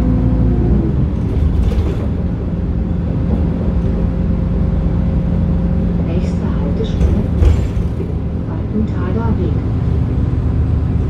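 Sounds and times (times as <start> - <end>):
diesel bus engine whine: 0.0 - 11.0
diesel engine idling: 0.0 - 11.0.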